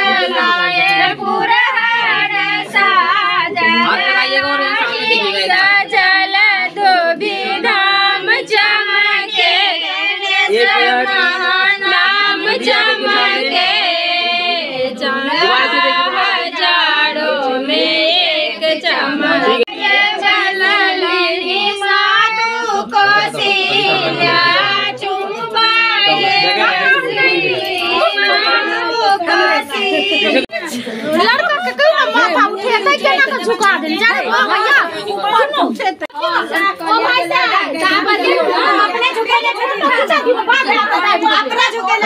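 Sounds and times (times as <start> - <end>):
women singing folk song: 0.0 - 42.0.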